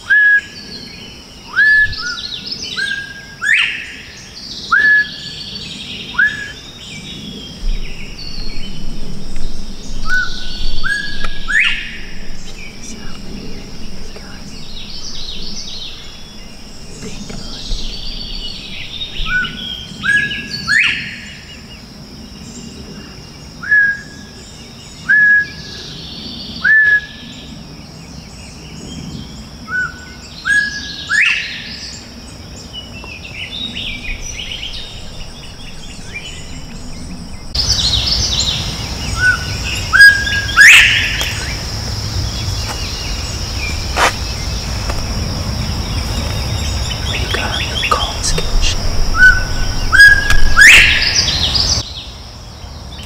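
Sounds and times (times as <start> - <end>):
high insect buzz: 0.0 - 25.0, 27.2 - 53.0.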